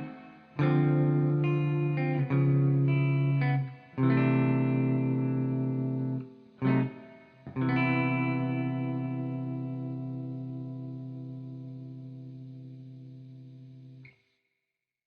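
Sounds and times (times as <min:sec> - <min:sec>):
electric guitar chords ringing: 0:00.0 - 0:14.1.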